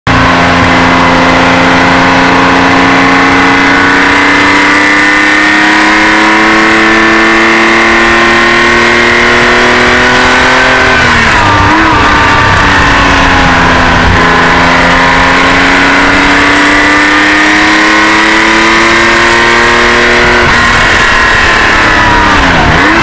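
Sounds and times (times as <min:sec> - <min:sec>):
car engine pulling under load: 0:00.1 - 0:23.0.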